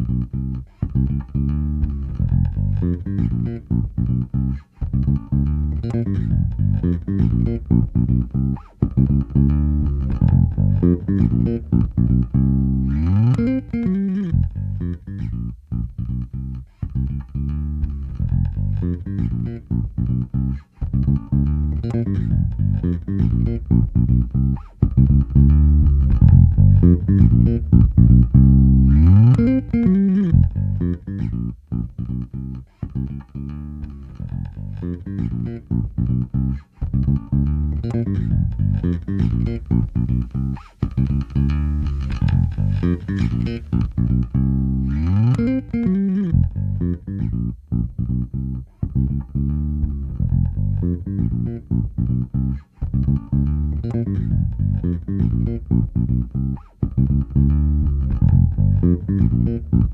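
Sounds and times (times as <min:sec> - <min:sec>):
electric bass guitar notes: 0:00.0 - 0:59.9.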